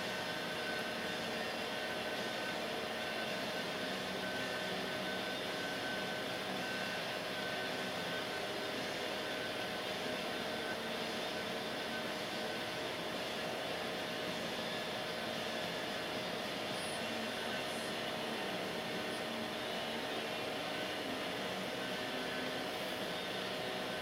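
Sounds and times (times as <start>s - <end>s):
cooling fan whirring: 0.0s - 24.0s.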